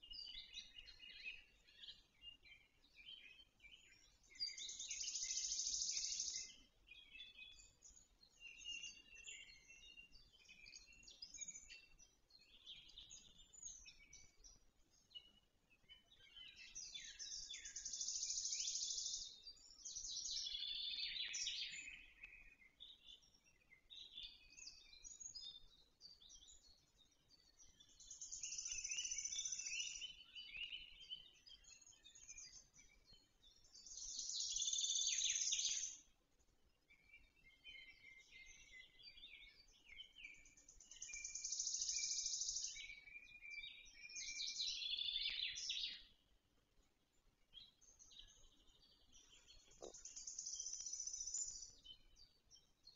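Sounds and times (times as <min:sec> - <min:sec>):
bird chirps: 0:00.0 - 0:52.9
songbirds singing: 0:00.0 - 0:52.9.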